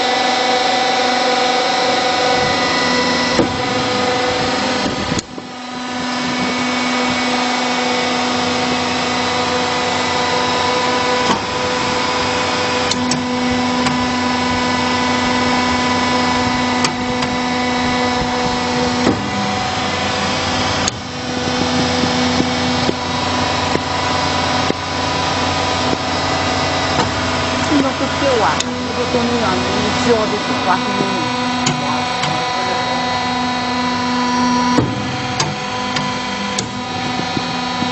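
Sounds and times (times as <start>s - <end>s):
machine motor hum: 0.0s - 37.9s.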